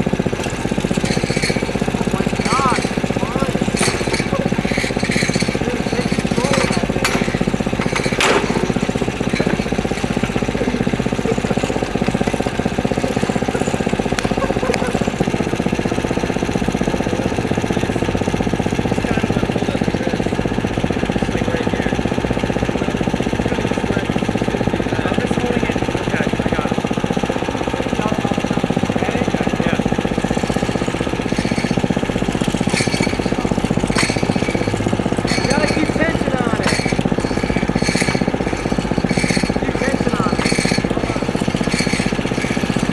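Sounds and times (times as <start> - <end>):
small gasoline engine running: 0.0 - 42.9.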